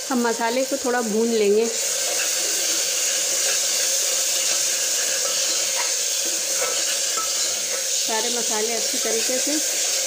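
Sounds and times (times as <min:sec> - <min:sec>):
masala sizzling in hot oil: 0:00.0 - 0:10.0
steel ladle stirring: 0:01.8 - 0:10.0.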